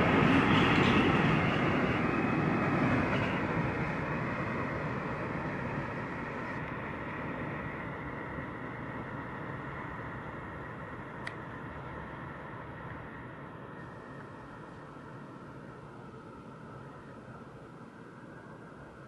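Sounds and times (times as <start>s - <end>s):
freight train rolling past: 0.0s - 16.8s.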